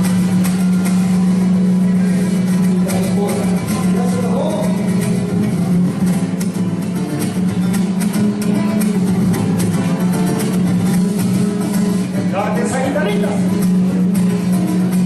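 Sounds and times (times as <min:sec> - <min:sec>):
fast strummed guitars: 0:00.0 - 0:15.0
mariachi band instrumental: 0:00.0 - 0:15.0.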